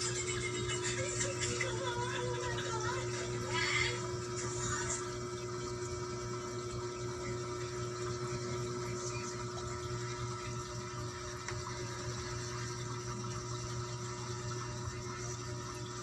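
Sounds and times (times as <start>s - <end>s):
aquarium pump humming: 0.0s - 16.0s.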